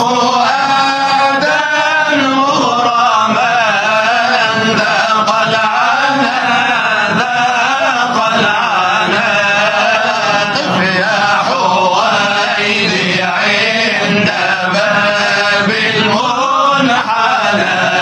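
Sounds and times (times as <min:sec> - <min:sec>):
man chanting devotional song: 0:00.0 - 0:18.0.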